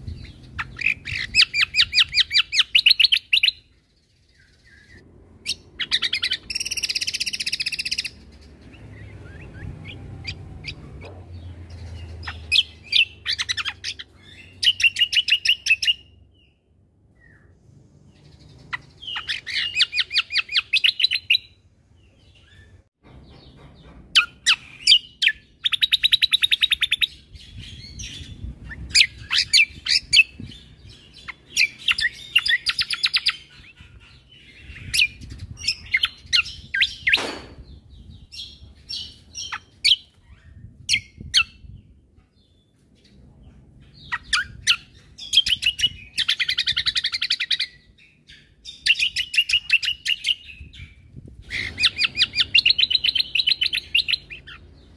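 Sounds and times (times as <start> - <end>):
bird chirps: 0.0 - 54.9
bird trilling song: 0.0 - 54.9.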